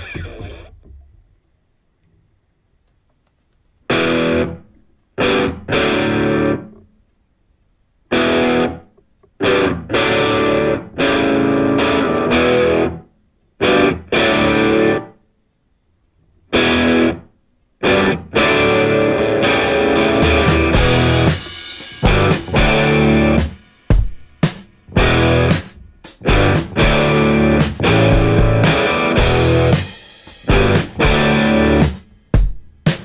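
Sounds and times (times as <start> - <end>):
distorted electric guitar chords: 0.0 - 1.0, 3.9 - 6.9, 8.1 - 15.2, 16.5 - 33.0.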